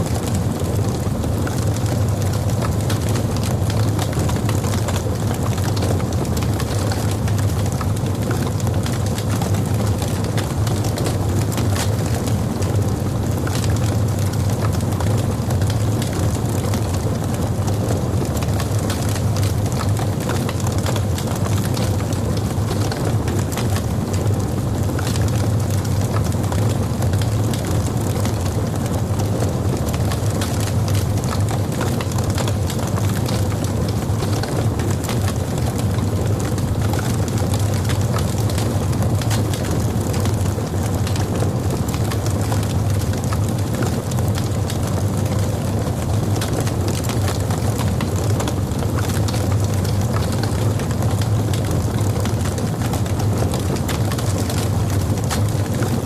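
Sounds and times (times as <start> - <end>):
fire burning with low rumble: 0.0 - 56.0
crackles and pops of burning wood: 0.1 - 56.0.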